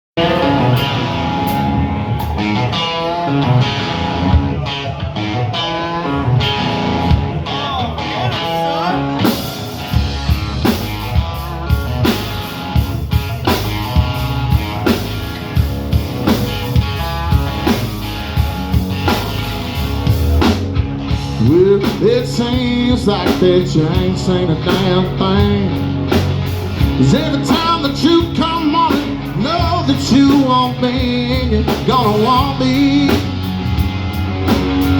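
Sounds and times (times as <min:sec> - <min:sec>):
bass guitar: 0:00.1 - 0:34.9
drum kit beat: 0:00.2 - 0:05.6, 0:09.1 - 0:34.9
electric guitar lines: 0:00.2 - 0:34.9.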